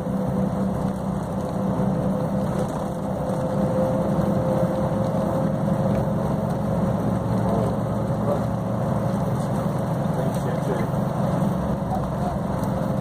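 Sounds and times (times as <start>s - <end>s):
engine and tyre road noise: 0.0s - 13.0s.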